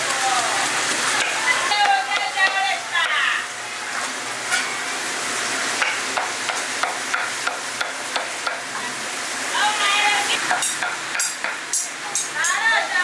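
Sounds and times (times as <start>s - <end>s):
food deep-frying in oil: 0.0s - 13.0s.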